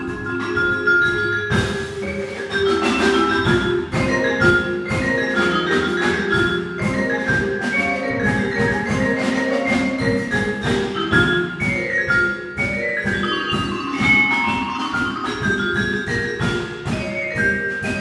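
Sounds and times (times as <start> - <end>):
drums: 0.0 - 18.0
marimbas playing fast patterns: 0.0 - 18.0.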